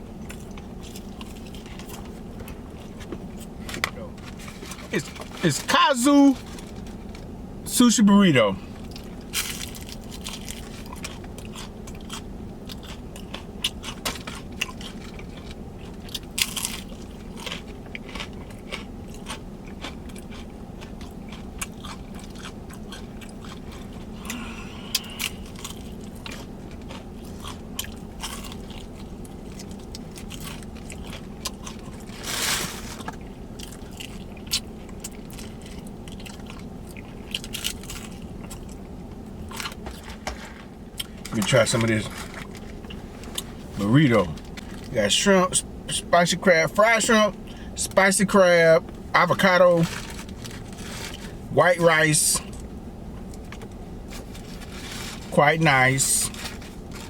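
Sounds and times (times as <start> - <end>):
chewing crunchy fried food: 0.0 - 7.3, 8.7 - 46.1, 47.0 - 57.0
steady low hum: 0.0 - 57.0.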